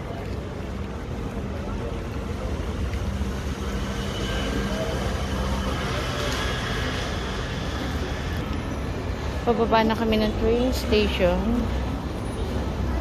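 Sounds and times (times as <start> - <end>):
city traffic rumble: 0.0 - 13.0
vehicle engine humming nearby: 0.0 - 13.0.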